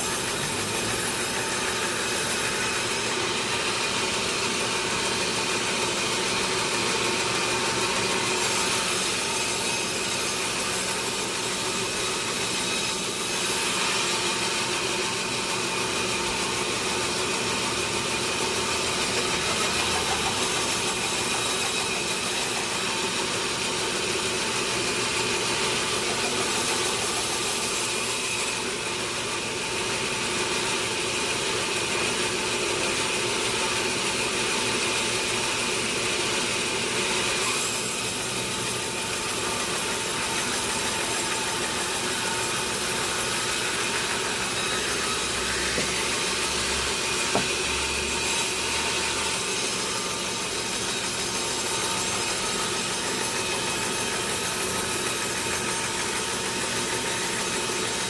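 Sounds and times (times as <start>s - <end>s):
sawmill saw droning: 0.0s - 58.0s.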